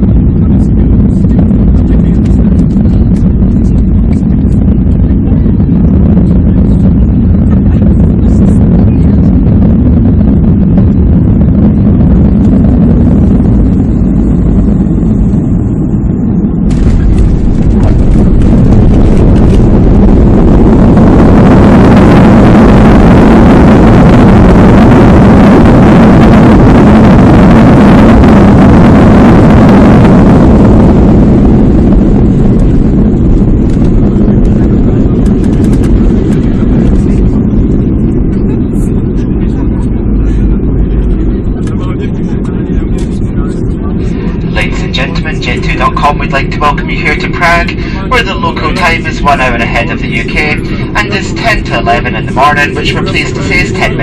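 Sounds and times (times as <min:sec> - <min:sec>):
airliner cabin rumble: 0:00.0 - 0:54.0
jet engines roaring: 0:00.0 - 0:54.0
plane touching down: 0:00.0 - 0:54.0.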